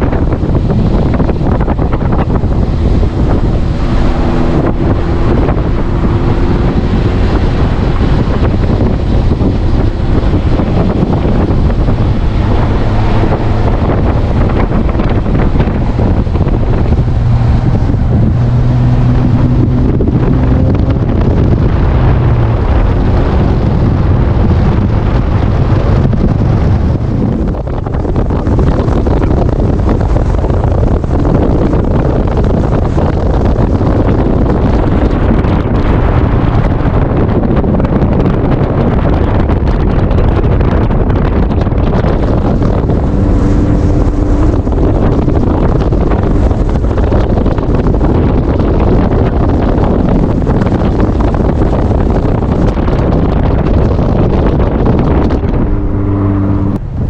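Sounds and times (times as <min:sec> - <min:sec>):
faint low engine hum: 0:00.0 - 0:39.6, 0:40.4 - 0:57.0
wind buffeting the microphone: 0:00.0 - 0:57.0.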